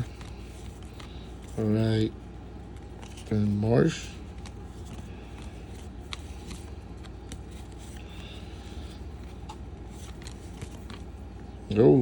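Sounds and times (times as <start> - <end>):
trading cards rustling and clicking: 0.0 - 2.0, 2.6 - 11.6
low background hum: 0.0 - 12.0.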